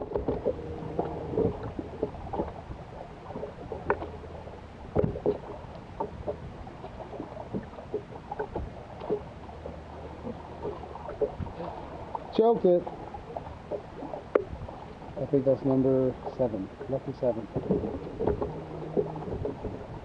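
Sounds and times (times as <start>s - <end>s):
small knocks and splashes: 0.0s - 15.0s, 16.3s - 20.0s
water lapping against hull: 0.0s - 20.0s.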